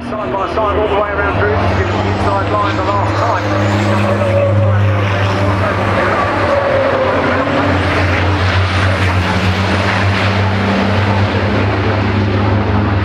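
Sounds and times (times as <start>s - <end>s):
truck diesel engines droning: 0.0s - 13.0s.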